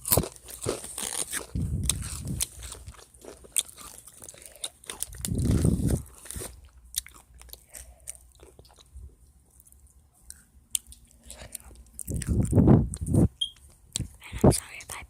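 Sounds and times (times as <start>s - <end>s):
person chewing crunchy food: 0.0s - 13.1s.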